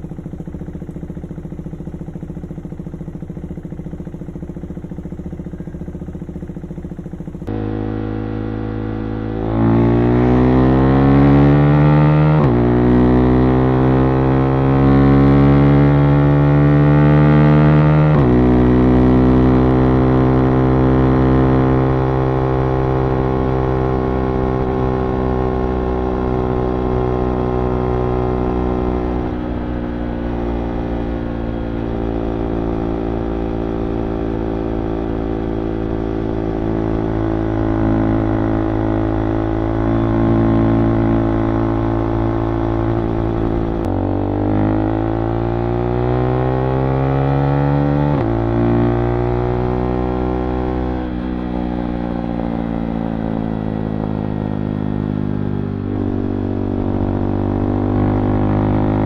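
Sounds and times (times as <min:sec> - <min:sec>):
motorcycle engine droning: 0:00.0 - 0:59.0.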